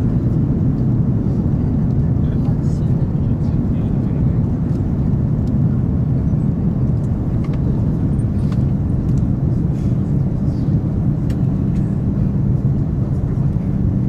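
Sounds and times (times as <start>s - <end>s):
low rumble inside train cabin: 0.0s - 14.0s.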